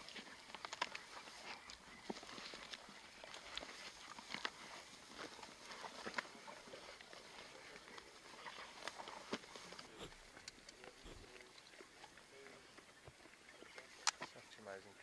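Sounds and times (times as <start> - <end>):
animals crunching and tearing: 0.0 - 15.0.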